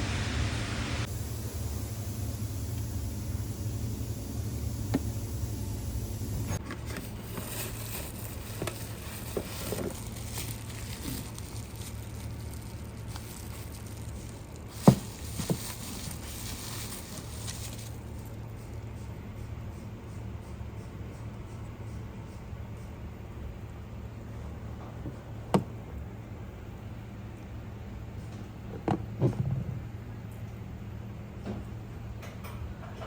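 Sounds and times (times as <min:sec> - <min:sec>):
steady low hum: 0:00.0 - 0:32.8.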